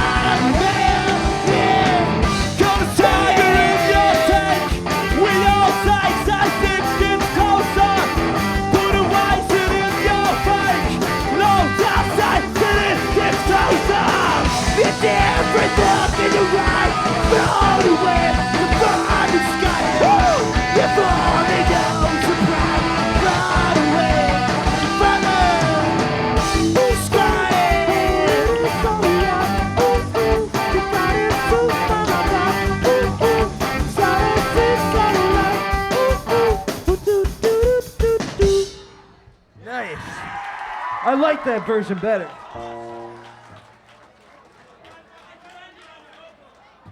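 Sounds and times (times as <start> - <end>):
shouted singing: 0.0 - 38.0
punk rock band playing: 0.0 - 39.3
pounding drum kit: 0.0 - 39.4.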